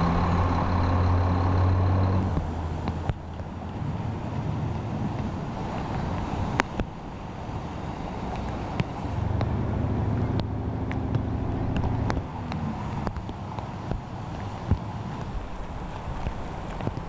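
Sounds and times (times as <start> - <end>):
outdoor background noise: 0.0 - 17.0
vehicle engine hum: 0.0 - 17.0.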